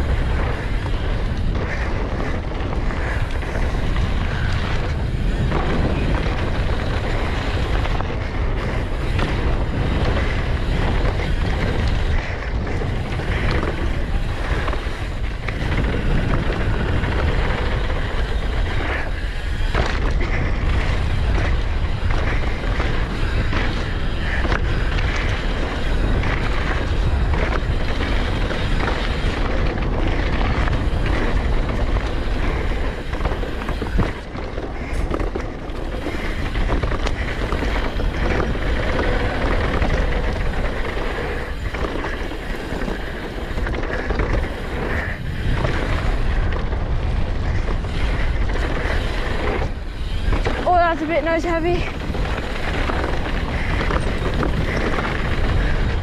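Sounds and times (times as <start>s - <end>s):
bike knocking and rattling: 0.0s - 56.0s
tyres rolling over dirt: 0.0s - 56.0s
wind on microphone: 0.0s - 56.0s.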